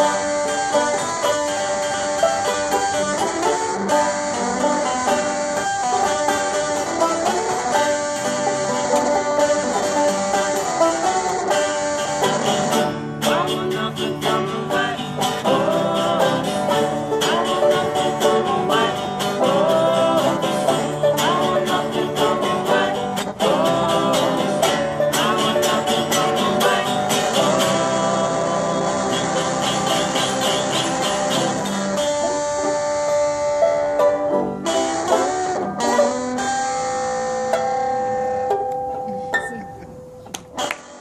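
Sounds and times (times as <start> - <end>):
picked banjo notes: 0.0 - 41.0
strummed acoustic guitar: 0.0 - 41.0.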